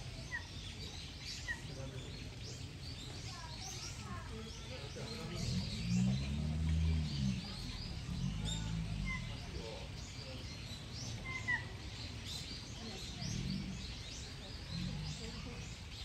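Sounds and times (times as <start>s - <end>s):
low murmur: 0.0s - 16.0s
small birds chirping: 0.0s - 16.0s.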